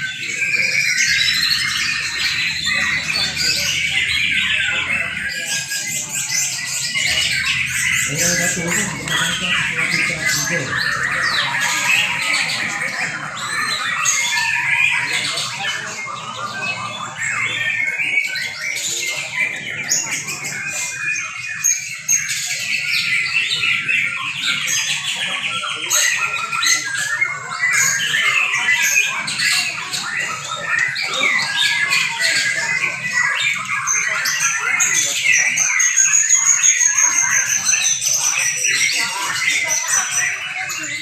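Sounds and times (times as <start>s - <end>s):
many birds singing at once: 0.0s - 41.0s.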